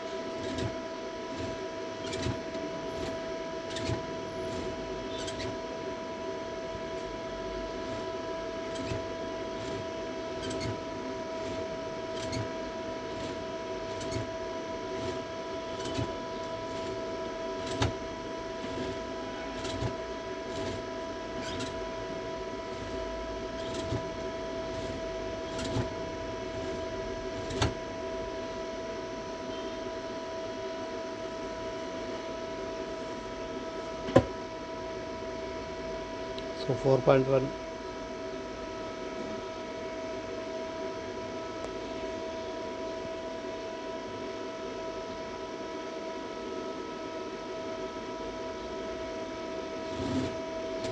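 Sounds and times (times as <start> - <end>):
electrical hum with whine: 0.0 - 50.9.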